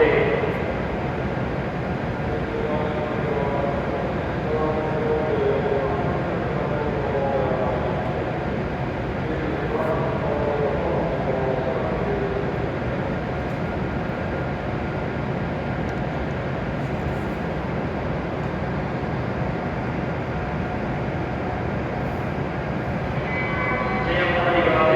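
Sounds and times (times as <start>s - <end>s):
train noise at station: 0.0s - 24.9s.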